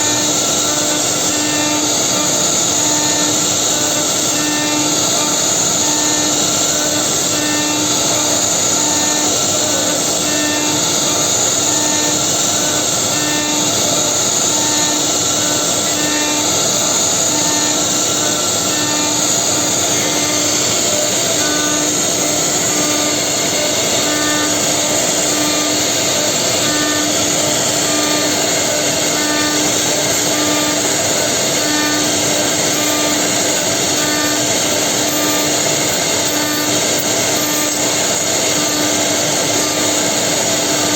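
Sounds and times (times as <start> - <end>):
cnc router milling wood: 0.0 - 40.9.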